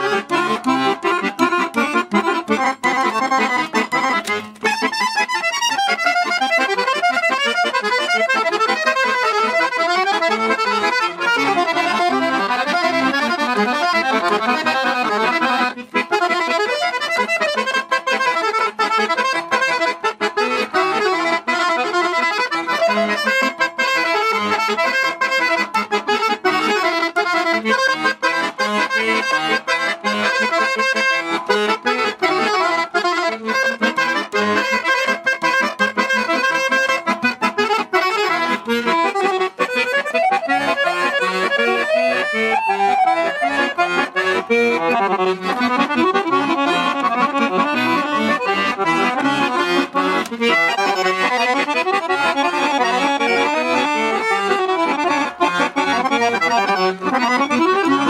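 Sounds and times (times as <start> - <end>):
piano accordion playing a dance tune: 0.0 - 58.0.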